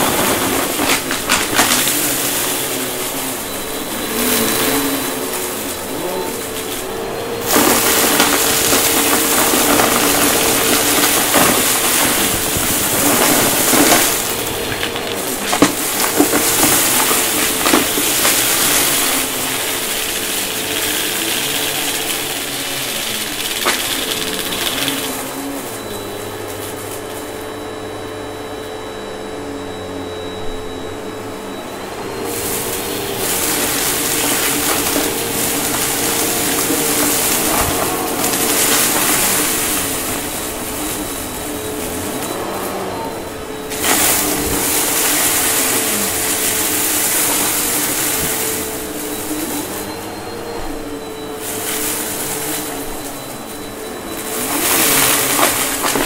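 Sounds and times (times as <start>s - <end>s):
debris clicks in vacuum: 0.0s - 28.7s, 31.6s - 56.0s
vacuum cleaner running: 0.0s - 56.0s.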